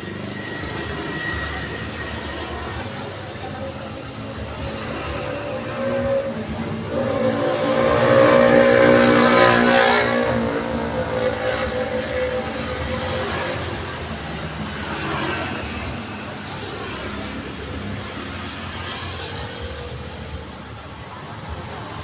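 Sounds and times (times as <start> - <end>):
passing vehicle engine hum: 0.0 - 22.0
steady traffic noise: 0.0 - 22.0.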